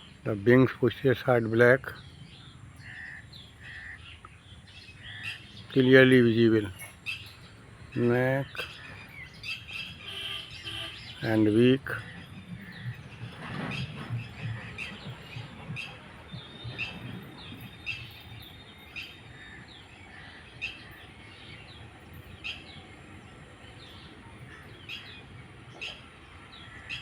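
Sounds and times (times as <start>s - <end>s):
wild birds chirping: 0.0s - 27.0s.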